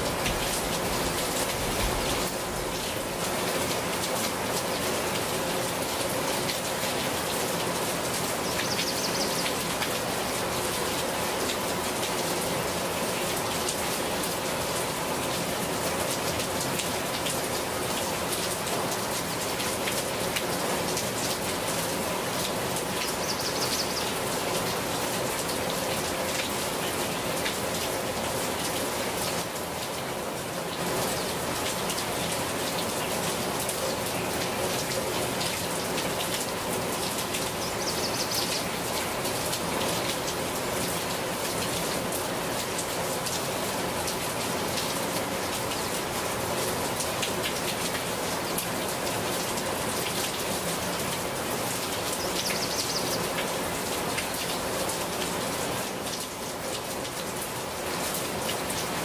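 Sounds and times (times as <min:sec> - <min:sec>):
raindrops ticking close by: 0:00.0 - 0:59.0
steady rain: 0:00.0 - 0:59.0.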